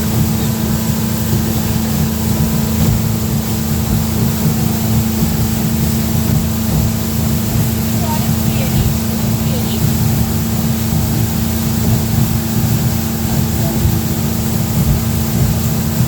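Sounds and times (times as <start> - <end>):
motorboat engine humming: 0.0 - 16.0.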